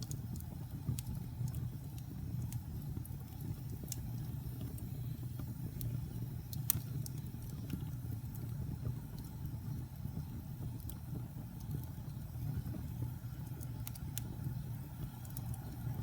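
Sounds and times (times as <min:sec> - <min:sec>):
low rumble of fire: 0:00.0 - 0:16.0
wood fire crackling: 0:00.0 - 0:16.0.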